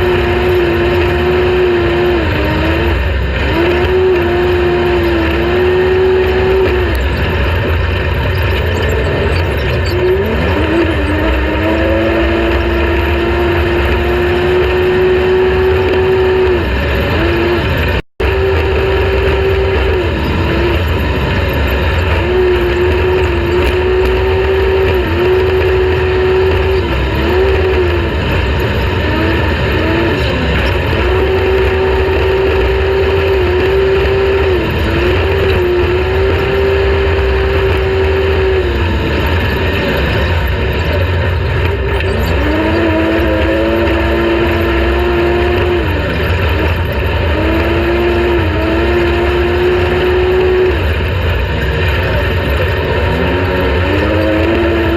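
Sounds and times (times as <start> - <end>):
off-road vehicle engine revving: 0.0 - 54.9.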